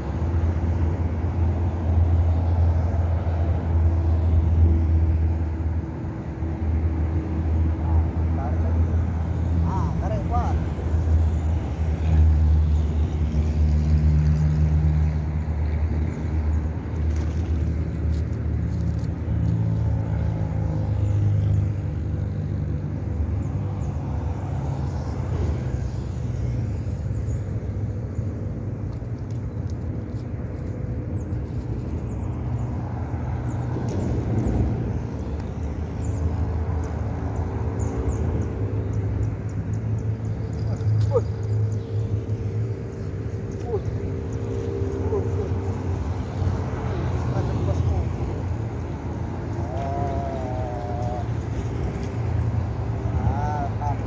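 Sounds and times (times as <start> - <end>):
low motor-like hum: 0.0 - 54.0.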